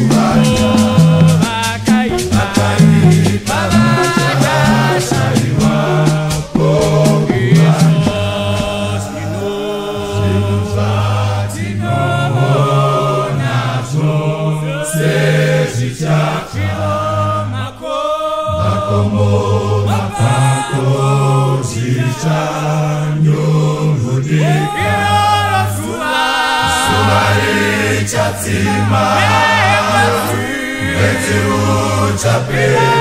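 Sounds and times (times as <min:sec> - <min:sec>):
vocal group singing in harmony: 0:00.0 - 0:33.0.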